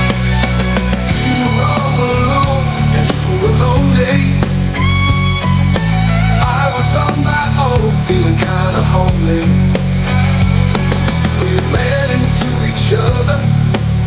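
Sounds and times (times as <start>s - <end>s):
bass guitar line: 0.0s - 14.0s
electric guitar melody: 0.0s - 14.0s.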